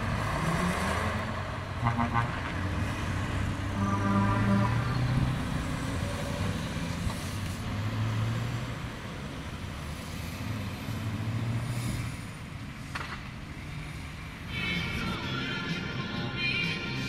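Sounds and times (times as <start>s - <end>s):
cars passing: 0.0s - 17.0s
truck driving by: 0.0s - 17.0s
tyres on road: 0.0s - 17.0s.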